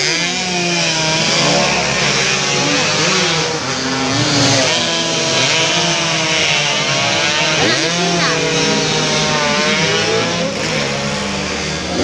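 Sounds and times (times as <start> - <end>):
motorcycles racing at high revs: 0.0 - 12.0.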